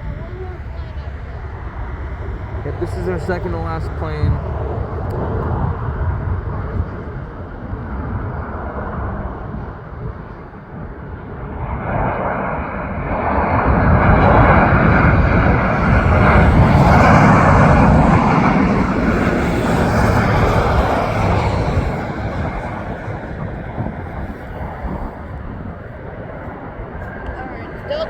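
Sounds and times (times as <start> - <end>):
airliner jet engines flying past: 0.0 - 28.0.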